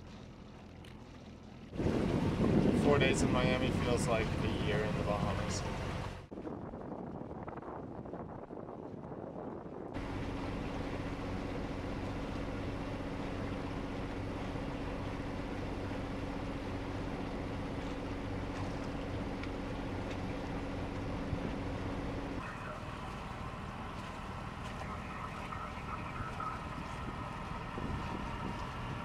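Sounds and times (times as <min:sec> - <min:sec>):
boat engine droning: 0:00.0 - 0:29.0
muffled rumble: 0:01.7 - 0:29.0
wind and water hiss: 0:01.7 - 0:29.0.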